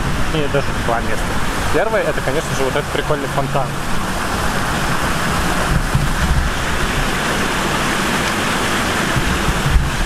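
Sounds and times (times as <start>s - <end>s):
fountain water splashing: 0.0s - 10.0s.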